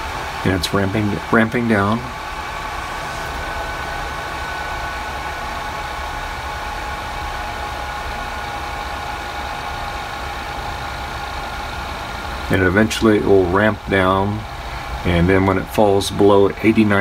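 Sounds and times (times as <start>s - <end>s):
cooling fan whirring: 0.0s - 17.0s.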